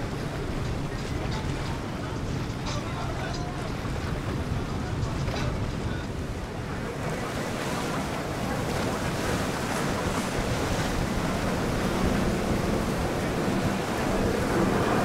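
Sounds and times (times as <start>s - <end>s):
choppy water rushing: 0.0s - 15.0s
motor yachts passing: 0.0s - 15.0s
wind buffeting microphone: 0.0s - 15.0s.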